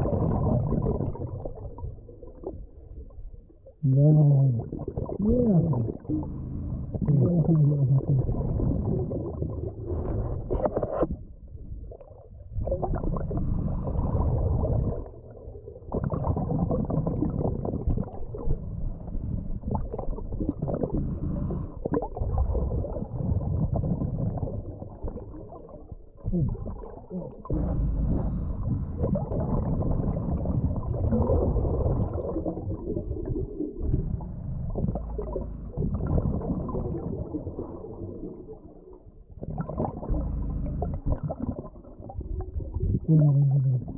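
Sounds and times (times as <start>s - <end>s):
underwater rumbling and gurgling: 0.0s - 43.9s.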